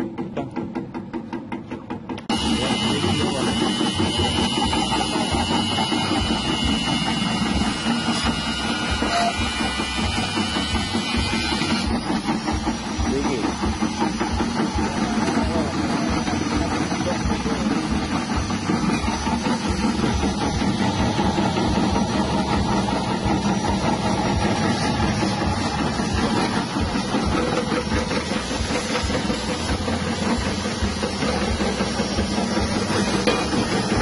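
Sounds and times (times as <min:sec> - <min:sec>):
electric slicing machine running: 0:02.1 - 0:34.0.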